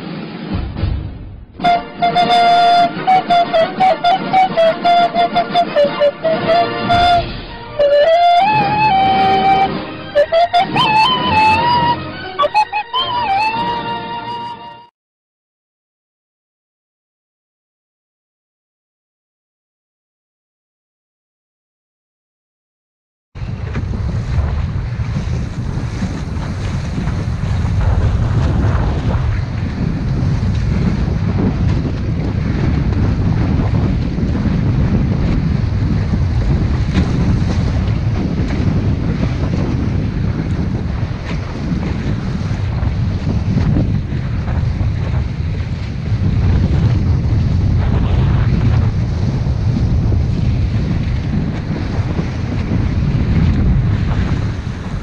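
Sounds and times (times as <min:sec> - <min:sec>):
wind buffeting microphone: 0:00.0 - 0:13.8, 0:23.4 - 0:55.0
water rushing and splashing: 0:00.0 - 0:14.7, 0:23.4 - 0:55.0.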